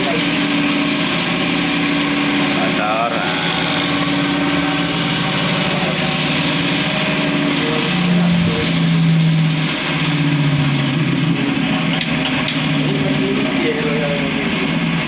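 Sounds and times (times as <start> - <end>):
cotton candy machine humming: 0.0 - 15.0.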